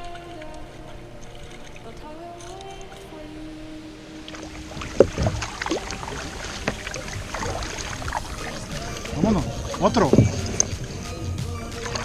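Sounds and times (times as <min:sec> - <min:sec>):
paddle splashing in water: 0:00.0 - 0:12.0.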